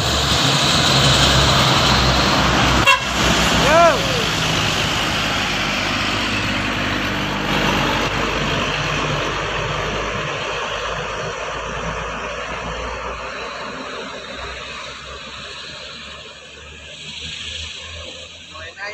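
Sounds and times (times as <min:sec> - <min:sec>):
truck diesel engine running: 0:00.0 - 0:17.5
road noise: 0:00.0 - 0:18.9.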